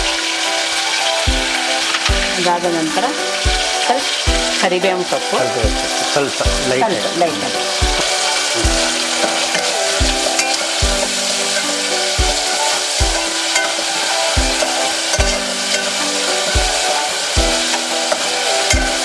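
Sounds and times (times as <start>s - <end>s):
food sizzling in oil: 0.0s - 19.0s
background music with deep thumps: 1.3s - 2.5s, 3.3s - 19.0s.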